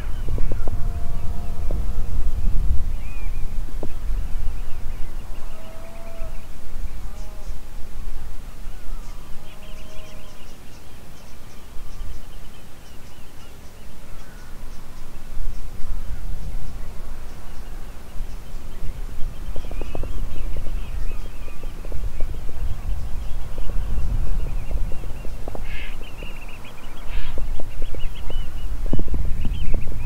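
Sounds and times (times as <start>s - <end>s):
birds calling: 0.0s - 30.0s
wind rumbling on microphone: 0.0s - 30.0s.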